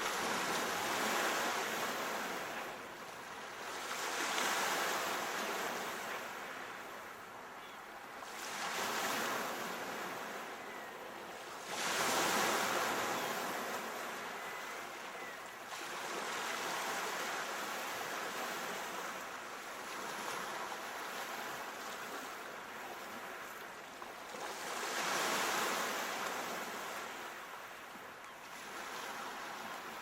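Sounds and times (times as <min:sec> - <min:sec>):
ocean waves: 0:00.0 - 0:30.0.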